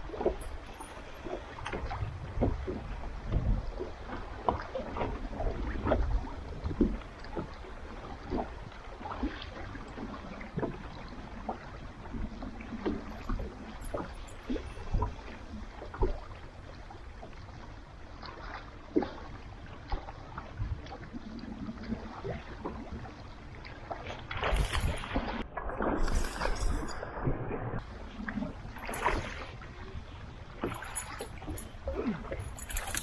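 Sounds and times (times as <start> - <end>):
boat water wash: 0.0 - 33.0.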